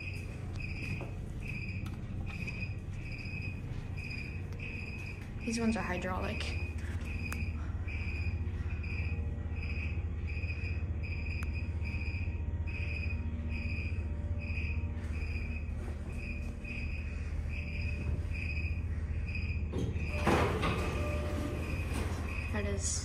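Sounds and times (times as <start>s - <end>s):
elevator doors opening: 0.0s - 23.0s
low hum: 0.0s - 23.0s.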